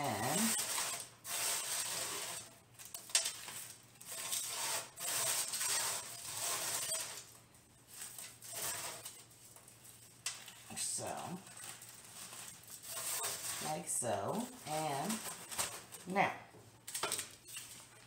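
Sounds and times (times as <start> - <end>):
plastic bag and foil rustling: 0.0 - 16.2, 16.8 - 18.0.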